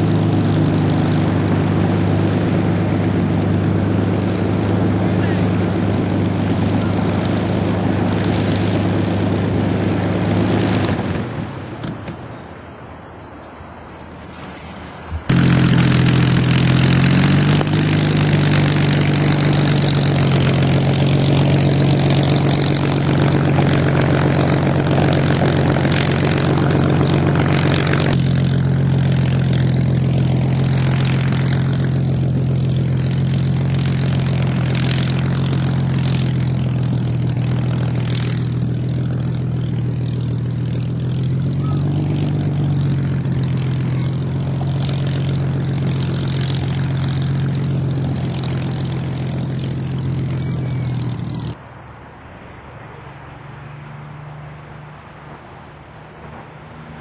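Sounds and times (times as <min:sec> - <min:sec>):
propeller plane engine running: 0:00.0 - 0:57.0.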